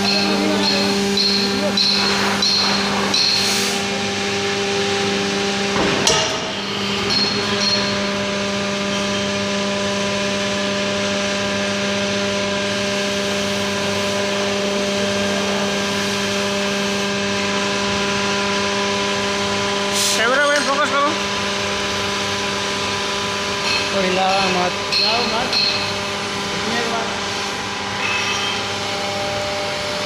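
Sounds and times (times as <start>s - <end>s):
hydraulic power unit hum: 0.0s - 30.0s.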